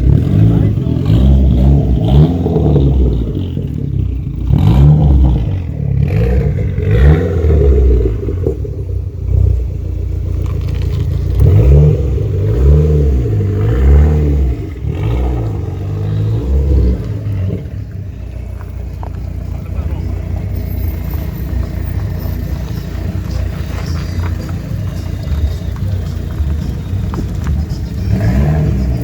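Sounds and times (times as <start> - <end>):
turbocharged car engine revving: 0.0 - 29.0.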